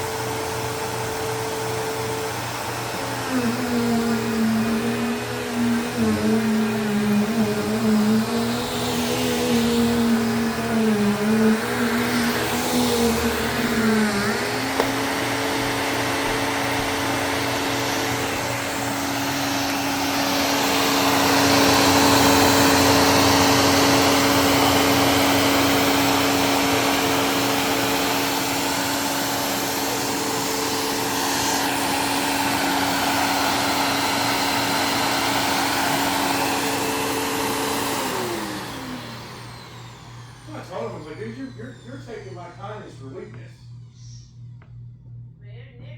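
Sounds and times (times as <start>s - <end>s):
upright vacuum cleaner running: 0.0s - 45.7s.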